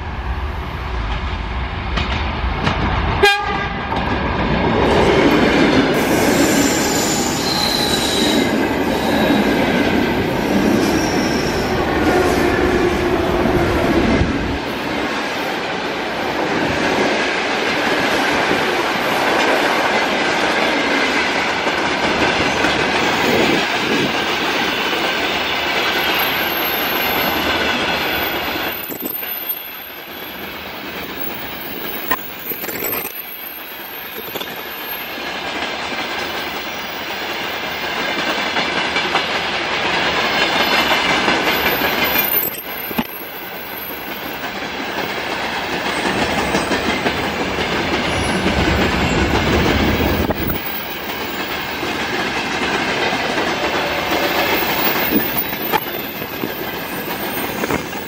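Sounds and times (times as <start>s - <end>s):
train wheels rolling on track: 0.0s - 58.0s.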